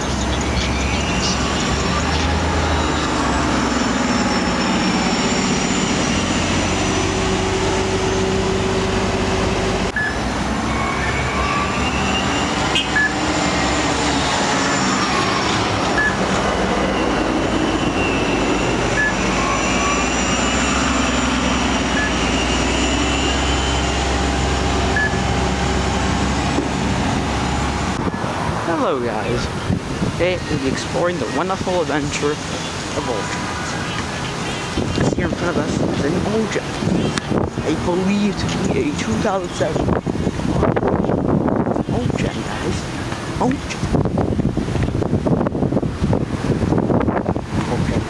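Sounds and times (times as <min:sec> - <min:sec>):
bus engine and traffic rumble: 0:00.0 - 0:48.0.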